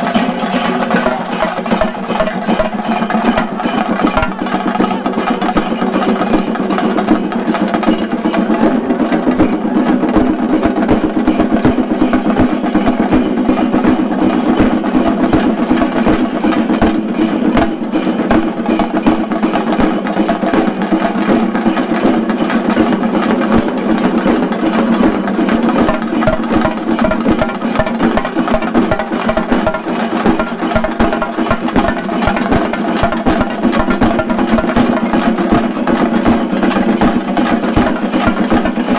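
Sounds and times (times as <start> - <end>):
drums playing fast rolls: 0.0 - 38.9.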